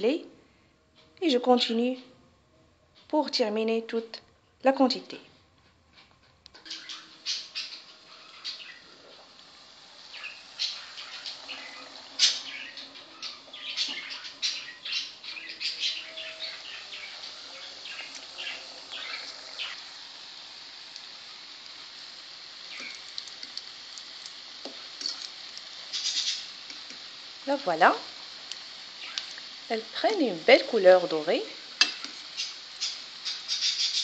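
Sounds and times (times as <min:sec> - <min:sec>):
dough frying in sizzling oil: 0:06.6 - 0:34.0.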